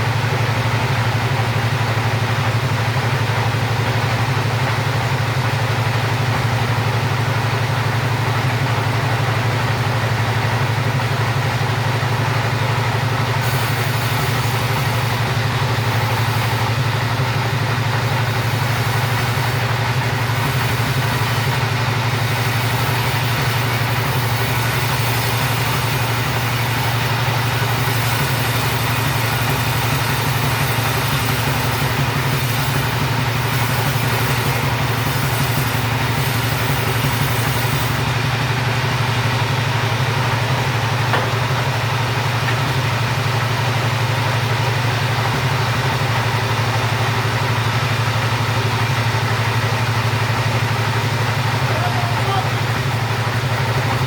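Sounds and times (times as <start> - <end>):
chainsaw engine running: 0.0 - 54.0.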